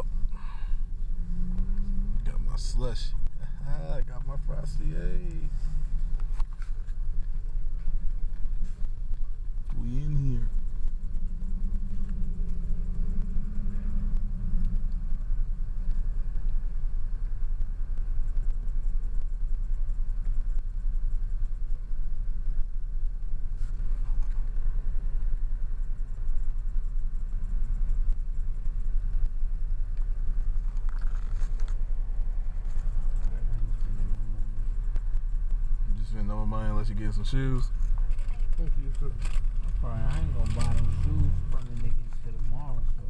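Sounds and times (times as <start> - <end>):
car engine rumble: 0.0 - 43.0
road noise: 0.0 - 43.0.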